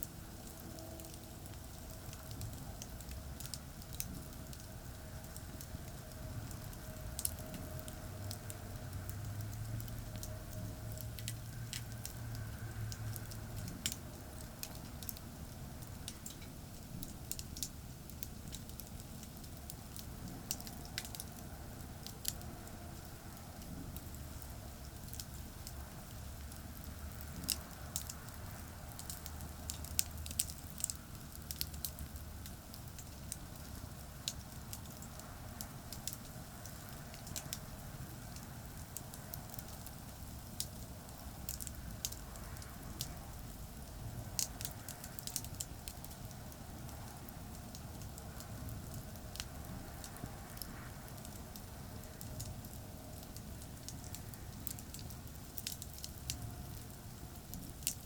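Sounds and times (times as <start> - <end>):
campfire crackling and popping: 0.0 - 58.0
distant highway traffic: 0.0 - 58.0.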